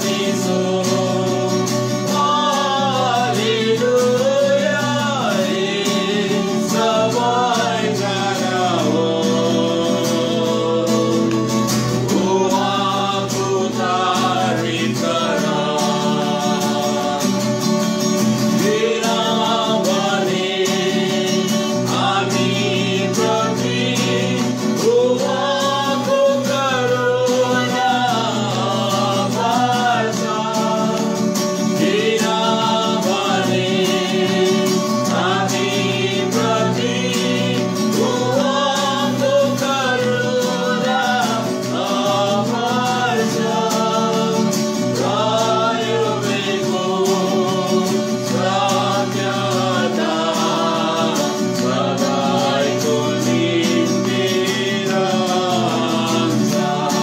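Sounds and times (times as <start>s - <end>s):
acoustic guitar strumming: 0.0s - 57.0s
voices singing a worship song: 0.0s - 57.0s.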